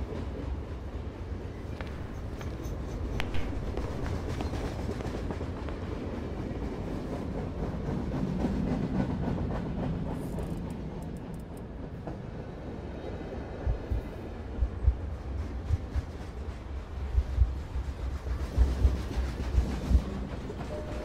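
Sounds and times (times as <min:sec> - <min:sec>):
underground train rumbling: 0:00.0 - 0:21.0.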